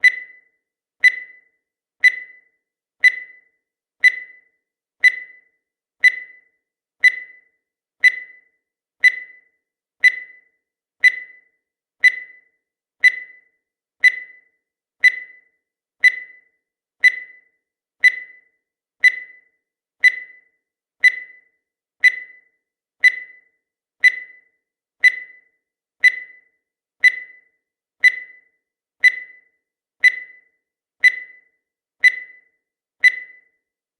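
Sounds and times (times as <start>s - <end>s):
short high-pitched beeps: 0.0s - 33.7s.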